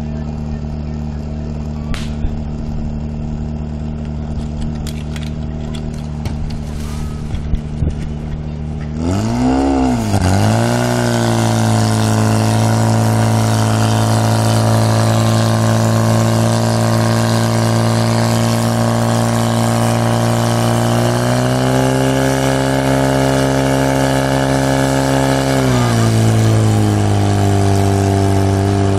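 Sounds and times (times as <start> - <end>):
fire pump engine revving: 0.0 - 28.9.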